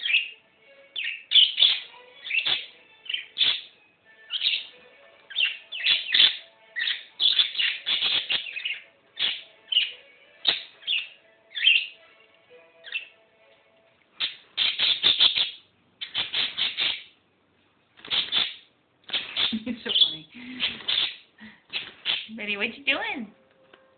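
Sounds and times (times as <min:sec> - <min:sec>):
budgerigar chirping: 0:00.0 - 0:12.0, 0:12.8 - 0:13.2, 0:14.2 - 0:17.2, 0:18.0 - 0:22.6.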